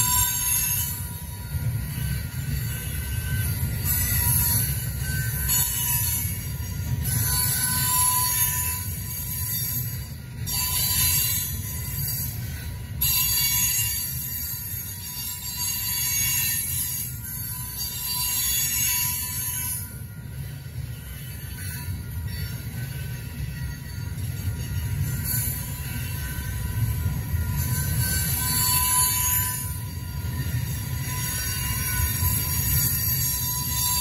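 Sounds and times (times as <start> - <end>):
steel wheels rumbling on rail: 0.0 - 34.0.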